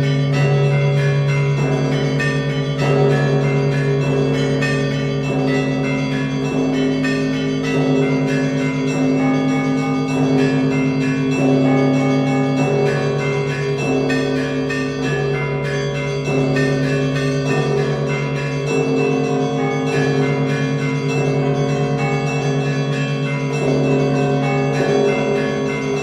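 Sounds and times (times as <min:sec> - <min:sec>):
deep church bells: 0:00.0 - 0:26.0.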